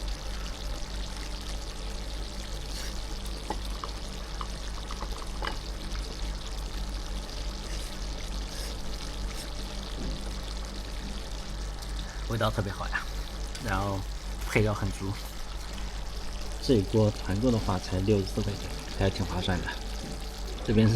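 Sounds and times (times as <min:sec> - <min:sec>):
low even hum: 0:00.0 - 0:20.9
stew bubbling in a pot: 0:00.0 - 0:20.9.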